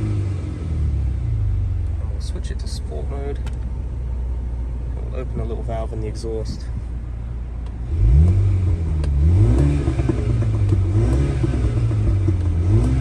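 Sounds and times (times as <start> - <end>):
car engine revving: 0.0 - 5.5, 6.5 - 13.0
exhaust crackles and pops: 1.6 - 4.1, 4.9 - 13.0.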